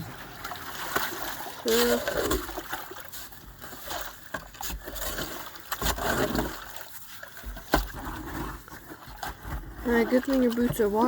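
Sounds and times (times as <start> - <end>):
muddy water sloshing: 0.0 - 11.0
knocks and scrapes: 1.8 - 11.0.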